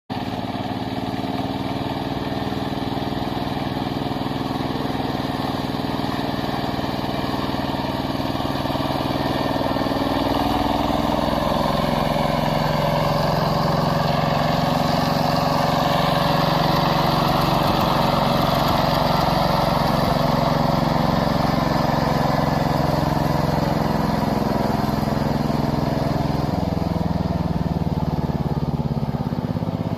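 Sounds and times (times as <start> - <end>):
power tiller diesel engine running: 0.1 - 29.9.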